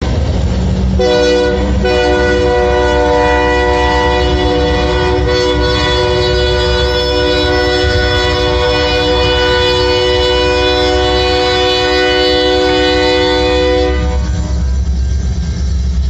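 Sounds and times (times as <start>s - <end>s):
passing train rumble: 0.0s - 16.0s
locomotive air horn blast: 1.0s - 14.8s.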